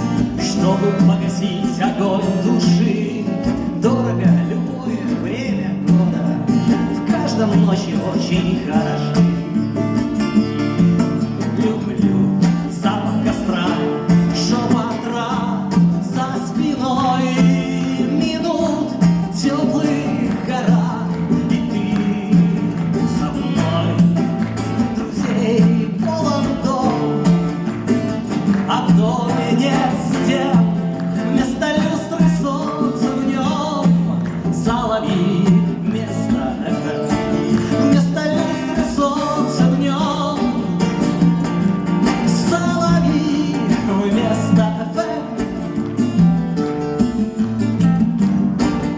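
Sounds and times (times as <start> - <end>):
acoustic guitars playing: 0.0 - 48.9.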